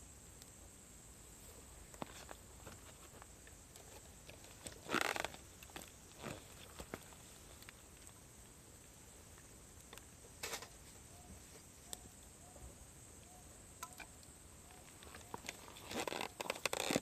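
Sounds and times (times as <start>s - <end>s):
steady high hiss: 0.0s - 17.0s
firewood crackling and popping: 1.8s - 12.3s, 13.2s - 17.0s.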